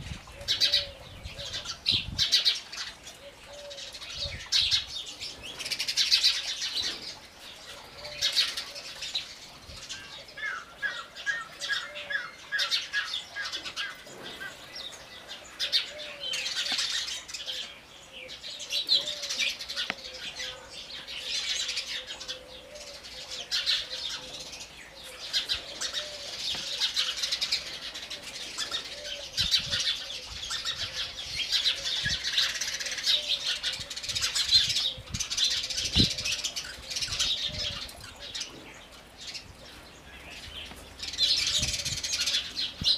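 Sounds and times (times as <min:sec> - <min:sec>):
sparrows chirping: 0:00.3 - 0:42.9.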